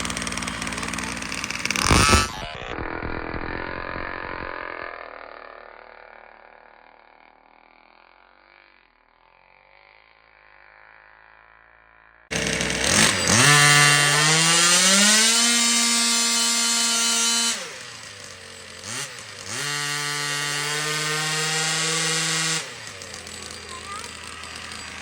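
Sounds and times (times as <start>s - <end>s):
small two-stroke engine revving: 0.0s - 25.0s.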